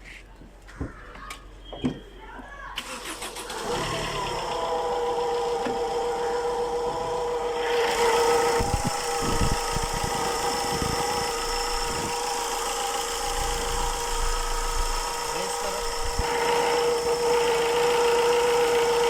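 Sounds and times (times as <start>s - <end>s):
diesel engine idling: 2.8s - 19.0s.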